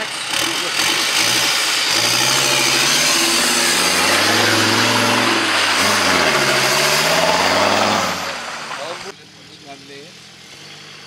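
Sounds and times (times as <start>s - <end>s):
tyres spinning in mud: 0.0s - 9.1s
off-road engine revving: 0.0s - 11.0s.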